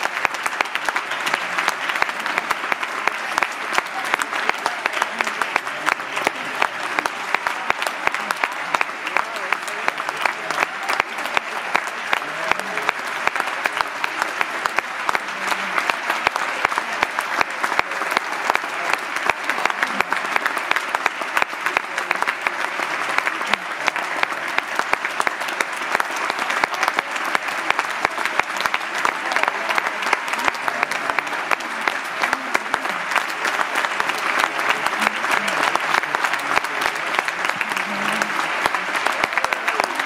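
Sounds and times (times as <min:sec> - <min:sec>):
large audience applauding: 0:00.0 - 0:40.0.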